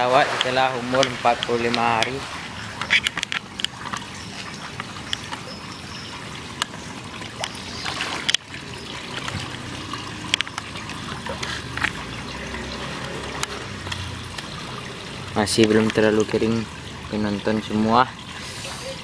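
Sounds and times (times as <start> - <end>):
fish splashing at surface: 0.0 - 17.5
water trickling: 0.0 - 19.0.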